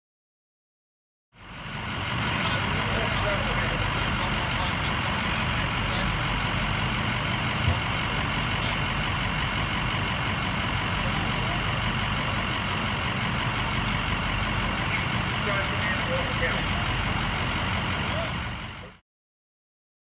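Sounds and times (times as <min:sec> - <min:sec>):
diesel engines idling: 0:01.4 - 0:19.0.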